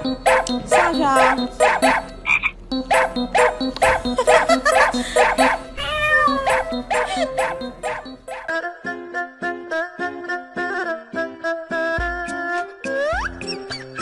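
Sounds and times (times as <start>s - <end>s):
music with croaking repeated notes: 0.0s - 14.0s.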